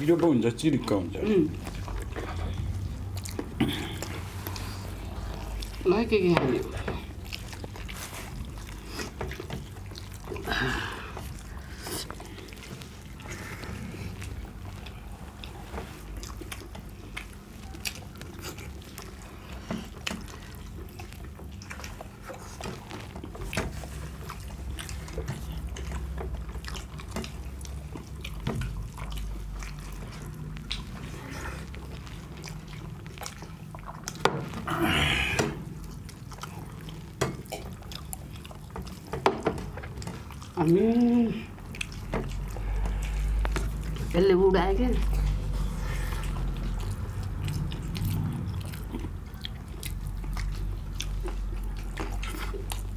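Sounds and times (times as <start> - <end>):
wet eating sounds: 0.0 - 52.9.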